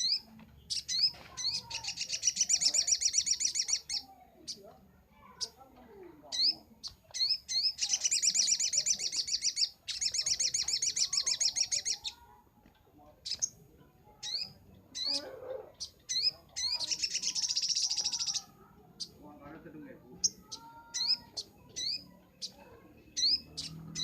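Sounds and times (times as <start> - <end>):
sharp bird chirps: 0.0 - 4.6, 6.3 - 12.3, 13.2 - 13.6, 14.2 - 19.3, 20.2 - 24.0
bird singing rapid trills: 0.0 - 5.6, 6.3 - 12.3, 13.2 - 24.0.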